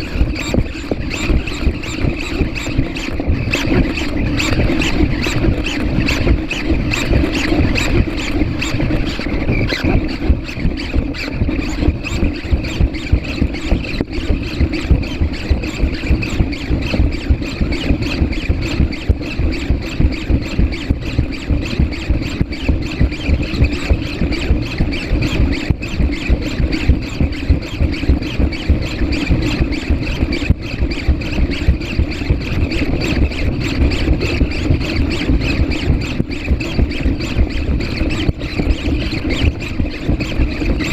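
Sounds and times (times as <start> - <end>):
rapid ticking: 0.0 - 40.9.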